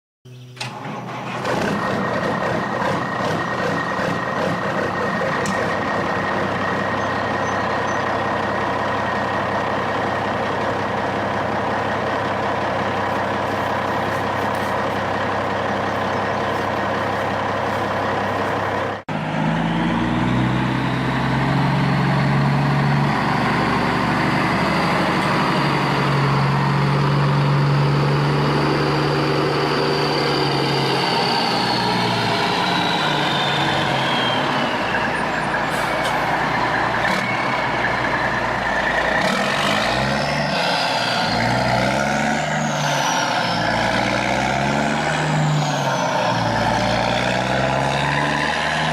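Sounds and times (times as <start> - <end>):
diesel truck engine idling: 0.6 - 40.1
engine revving: 0.6 - 48.9.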